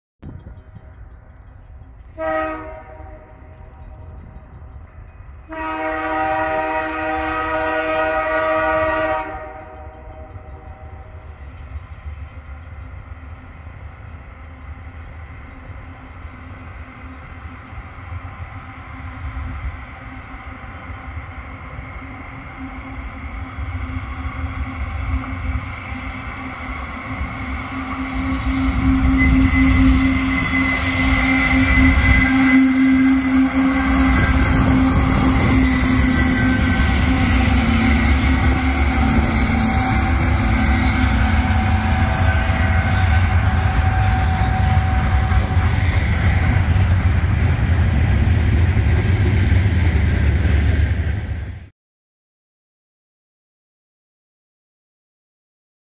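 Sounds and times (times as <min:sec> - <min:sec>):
freight train locomotives passing: 0:00.2 - 0:51.7.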